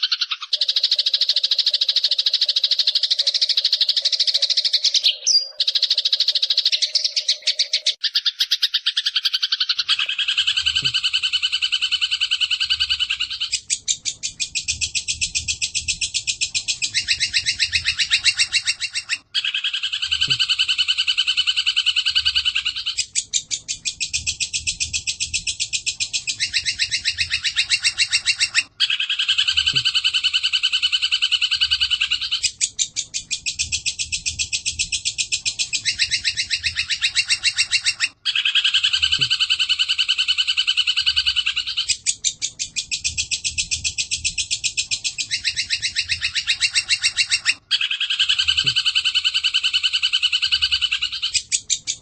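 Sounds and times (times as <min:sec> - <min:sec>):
sparrows trilling and chirping: 0:00.0 - 0:52.0.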